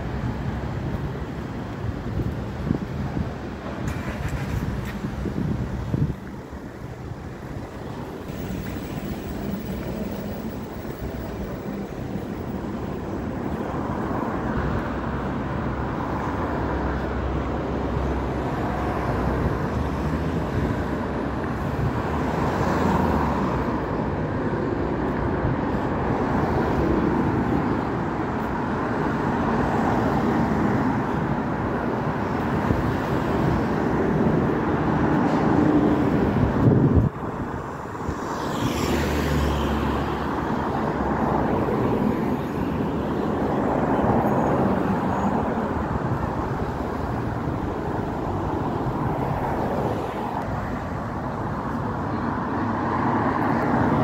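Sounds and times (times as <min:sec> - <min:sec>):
road traffic rumbling: 0:00.0 - 0:54.0.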